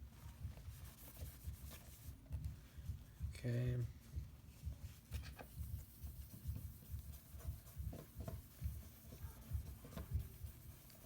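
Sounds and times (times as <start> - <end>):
soft handling bumps: 0.0 - 11.0.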